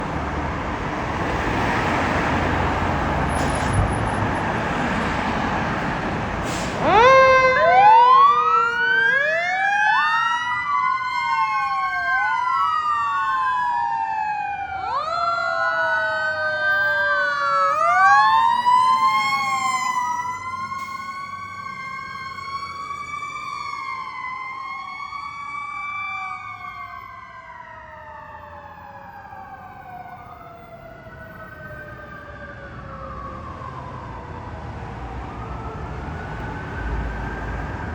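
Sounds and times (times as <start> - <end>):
engine and road noise: 0.0 - 37.9
sirens wailing: 0.0 - 37.9.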